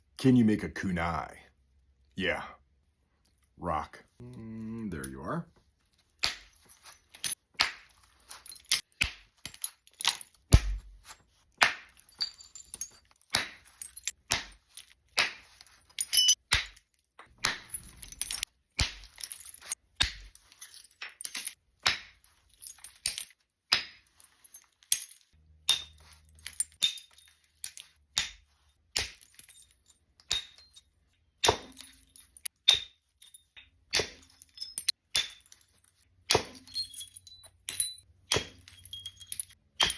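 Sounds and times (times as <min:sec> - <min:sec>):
stone striking flint: 0:06.1 - 0:30.8, 0:31.4 - 0:36.9, 0:37.7 - 0:39.9.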